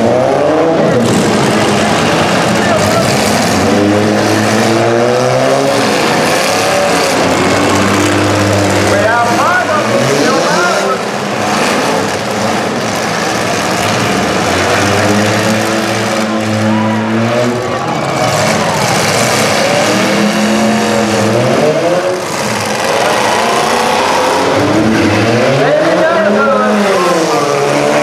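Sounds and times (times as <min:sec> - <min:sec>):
car engines revving: 0:00.0 - 0:28.0
constant loud noise: 0:00.0 - 0:28.0.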